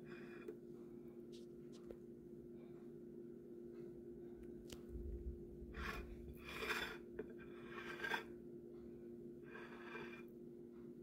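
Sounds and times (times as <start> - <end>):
quiet steady hum: 0.0 - 11.0.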